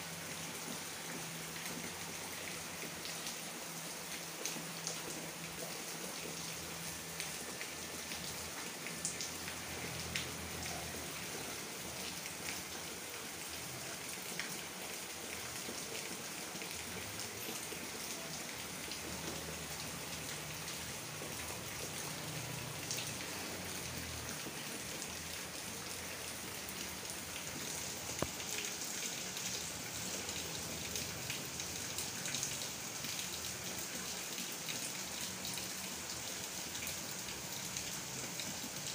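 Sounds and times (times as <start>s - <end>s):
rain on ground and foliage: 0.0s - 38.9s.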